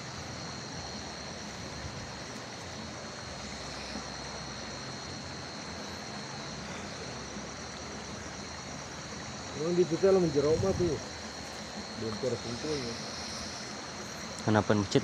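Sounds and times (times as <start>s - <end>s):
high-pitched whine: 0.0s - 15.0s
stream water flowing: 0.0s - 15.0s.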